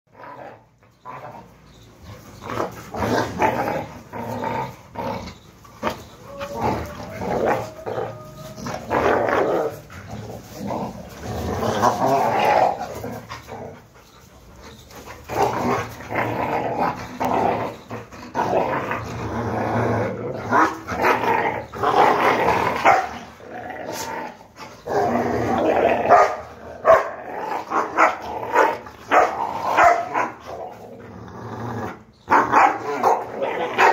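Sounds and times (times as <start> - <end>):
dogs growling: 0.1 - 33.9.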